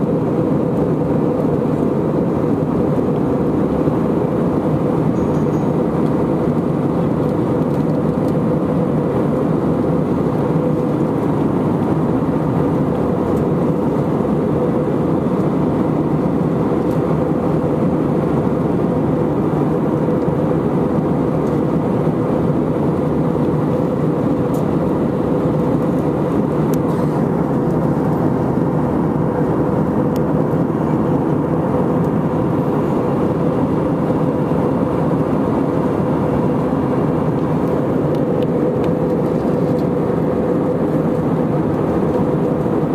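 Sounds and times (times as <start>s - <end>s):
aircraft cabin engine noise: 0.0s - 42.9s.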